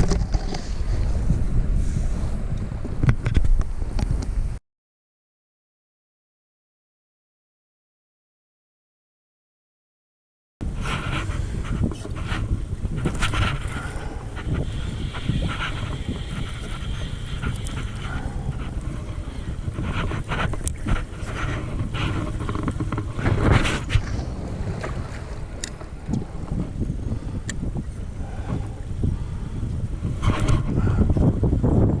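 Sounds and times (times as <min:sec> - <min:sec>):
wind buffeting microphone: 0:00.0 - 0:04.6, 0:10.6 - 0:32.0.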